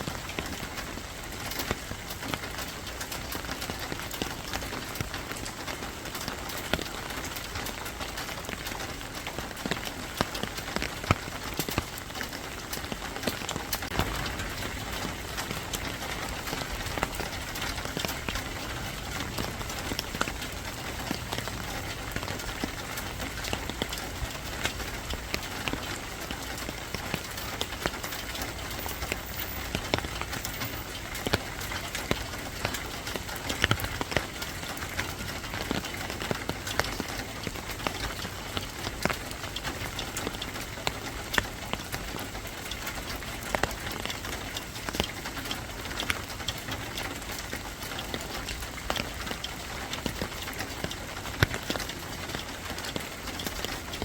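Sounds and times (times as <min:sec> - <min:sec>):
steady rain falling: 0:00.0 - 0:54.0
drops dripping on a surface: 0:00.1 - 0:54.0.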